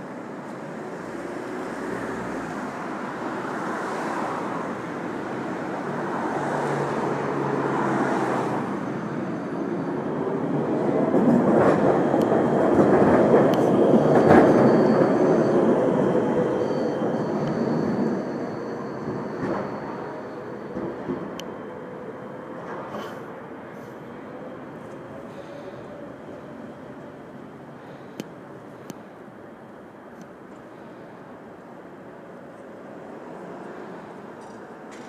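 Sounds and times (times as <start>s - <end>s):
tram rumbling past: 0.0s - 35.0s.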